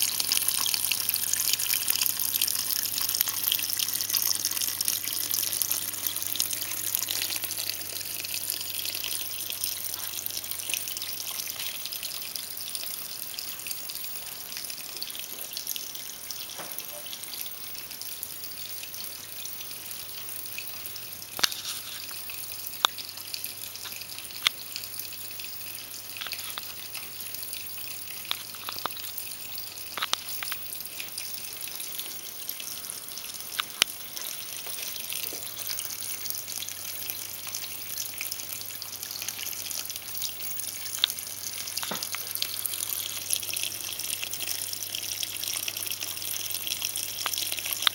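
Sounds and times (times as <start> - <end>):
sharp water drips: 0.0 - 47.9
water trickling: 0.0 - 47.9.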